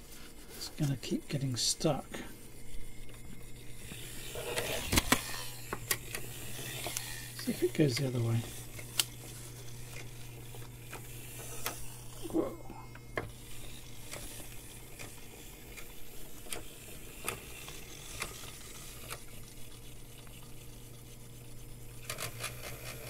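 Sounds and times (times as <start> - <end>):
small electric motors running: 0.3 - 23.0.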